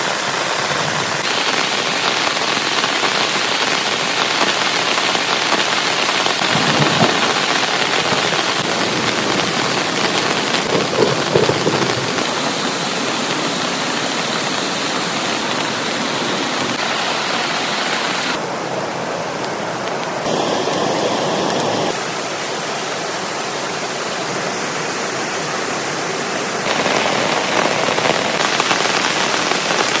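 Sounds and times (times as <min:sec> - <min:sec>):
heavy rain falling: 0:00.0 - 0:18.4, 0:20.0 - 0:30.0.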